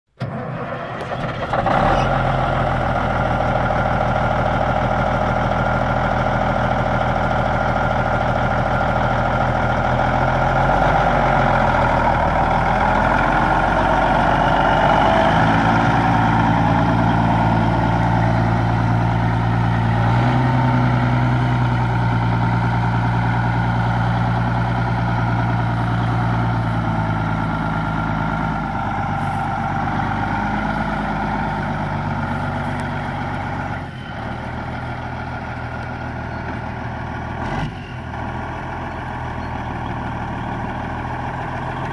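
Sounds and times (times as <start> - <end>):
truck diesel engine idling: 0.2 - 41.9.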